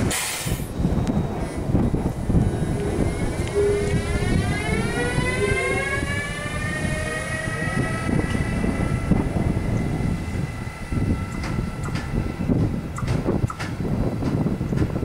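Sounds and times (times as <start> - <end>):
electric locomotive whine: 0.0 - 15.0
low rumbling: 0.0 - 15.0.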